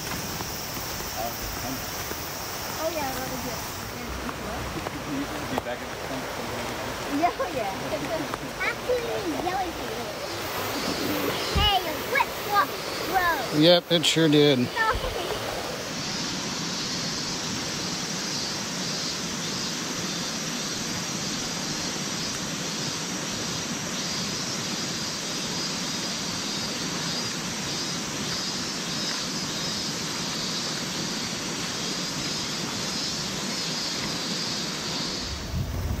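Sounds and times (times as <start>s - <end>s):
river rushing over stones: 0.0s - 36.0s.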